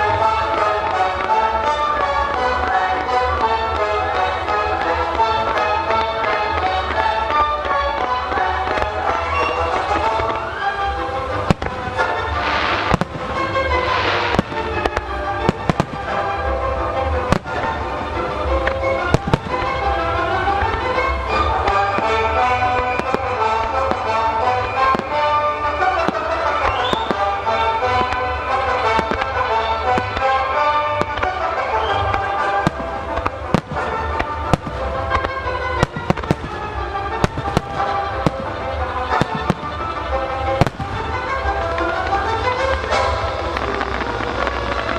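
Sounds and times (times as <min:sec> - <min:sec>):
firework shells bursting: 0:00.0 - 0:44.9
music: 0:00.0 - 0:44.9.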